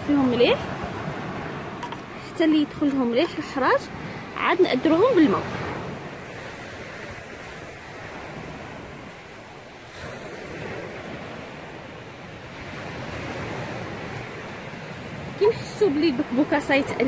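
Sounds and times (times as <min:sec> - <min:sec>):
waves on pebble beach: 0:00.0 - 0:17.0
wind on microphone: 0:00.0 - 0:17.0.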